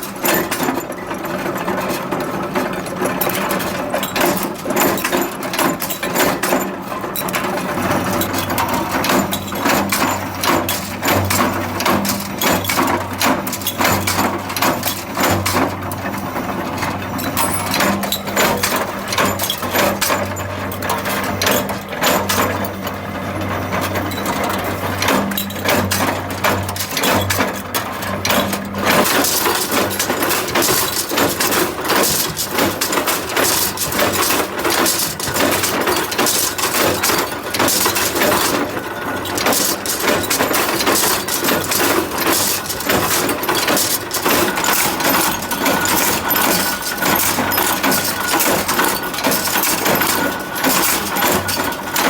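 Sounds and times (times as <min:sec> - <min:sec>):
machinery clattering and clinking: 0:00.0 - 0:52.0.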